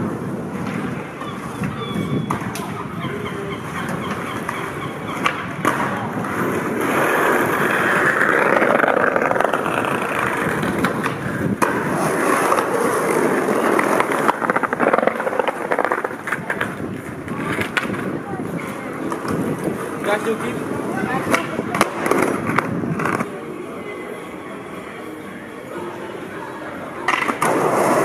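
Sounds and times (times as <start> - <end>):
skateboard clacking: 0.0 - 23.4, 26.9 - 28.0
skateboard wheels rolling on stone: 0.0 - 23.7, 26.9 - 28.0.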